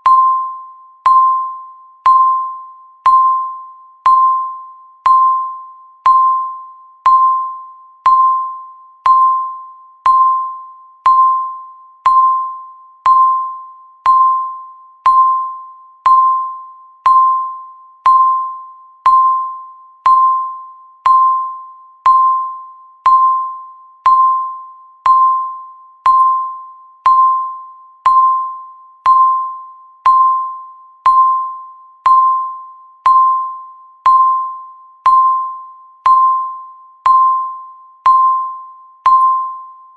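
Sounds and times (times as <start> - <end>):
timer ding beeps: 0.0 - 39.9.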